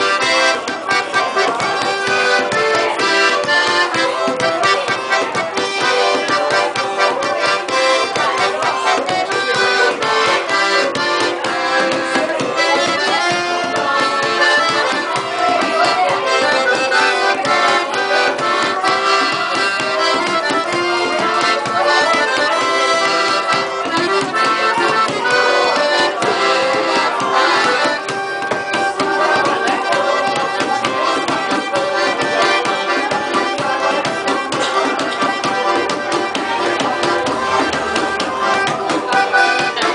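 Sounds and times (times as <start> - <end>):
accordion playing lively tune: 0.0 - 39.9
percussion hits: 0.0 - 39.9.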